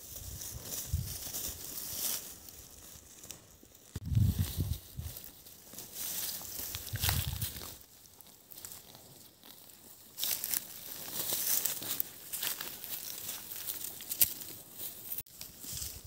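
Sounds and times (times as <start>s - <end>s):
dry vegetation rustling: 0.0s - 16.0s.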